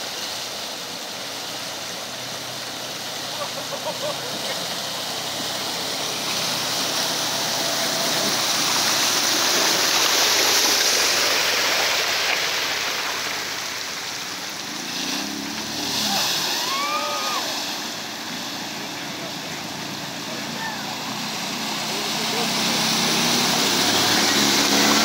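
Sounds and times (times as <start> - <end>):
creek water rushing: 0.0 - 25.0
vehicle splashing through water: 0.0 - 25.0
engine revving: 2.4 - 12.0, 12.8 - 25.0.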